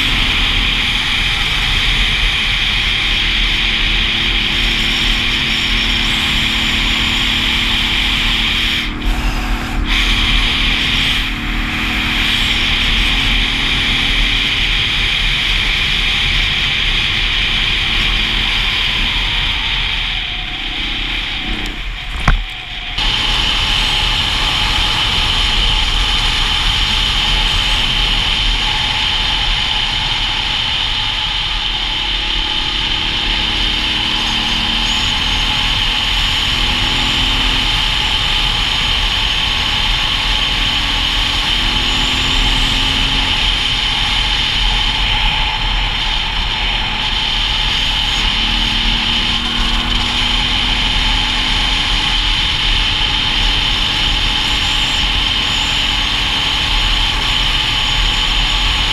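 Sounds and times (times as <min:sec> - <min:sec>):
motorcycle engine drone: 0:00.0 - 0:58.9
rushing wind: 0:00.0 - 0:58.9.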